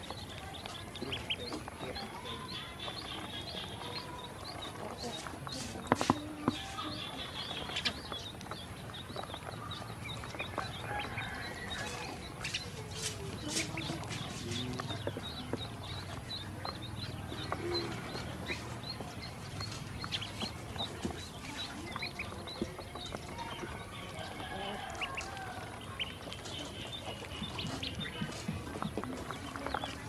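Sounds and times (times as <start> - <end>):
ducklings peeping: 0.0 - 30.0.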